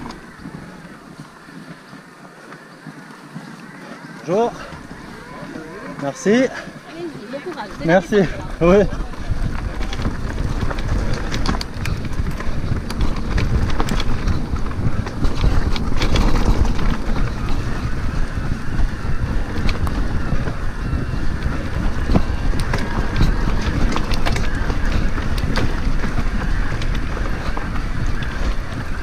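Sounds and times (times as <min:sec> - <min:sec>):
bike clicks and rattles: 0:00.0 - 0:29.0
wind buffeting microphone: 0:00.0 - 0:29.0.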